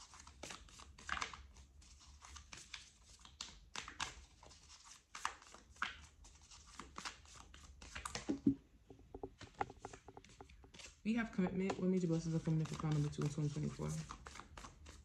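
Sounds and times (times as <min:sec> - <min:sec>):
cards being shuffled: 0:00.2 - 0:08.5, 0:09.4 - 0:11.0, 0:11.6 - 0:15.0.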